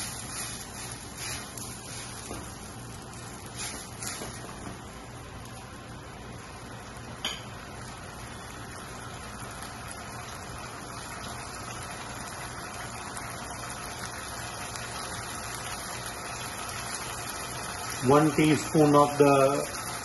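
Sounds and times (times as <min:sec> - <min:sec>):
tomato sizzling in oil: 0:00.0 - 0:20.0.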